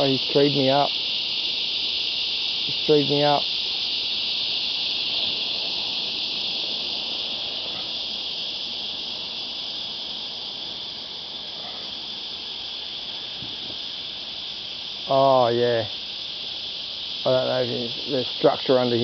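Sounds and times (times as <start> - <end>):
cicada chorus buzzing: 0.0 - 19.0.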